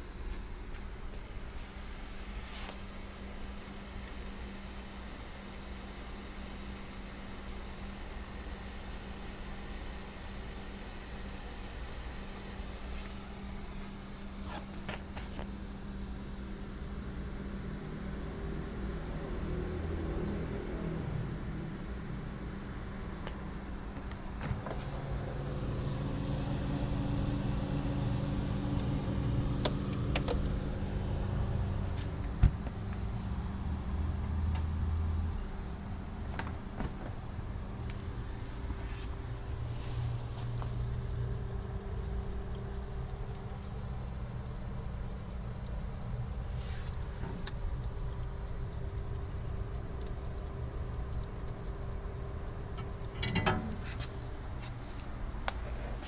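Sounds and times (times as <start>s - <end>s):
refrigerator humming: 0.0s - 56.0s.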